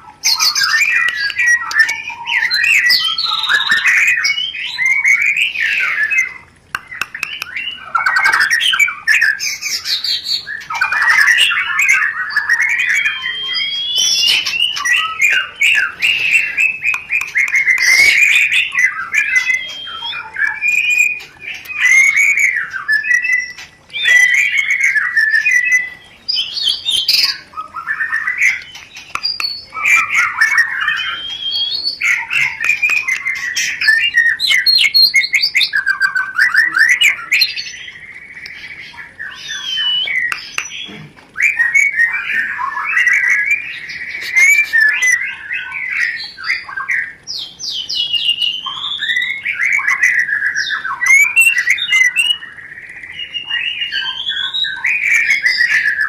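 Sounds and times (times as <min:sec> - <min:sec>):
bird singing chattering and whistling: 0:00.0 - 0:56.0.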